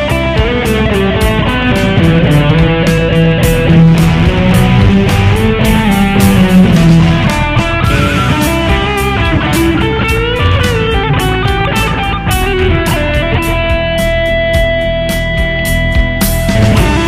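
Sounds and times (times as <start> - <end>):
electric guitar lead line: 0.0 - 17.0.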